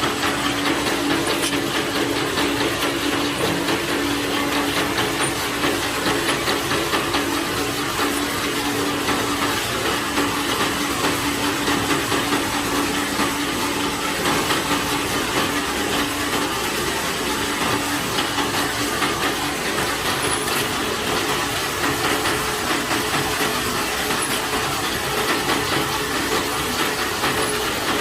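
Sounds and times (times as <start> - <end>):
machine clattering: 0.0 - 28.0.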